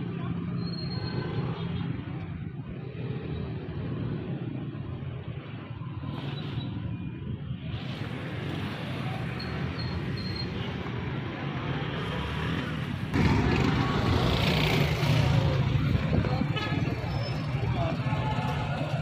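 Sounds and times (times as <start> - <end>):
auto-rickshaw and motorcycle engines: 0.0 - 19.0.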